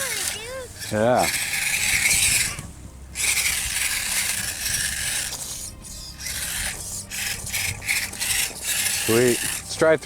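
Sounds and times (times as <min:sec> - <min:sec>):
toy car tyres scraping on ice: 0:00.0 - 0:10.0.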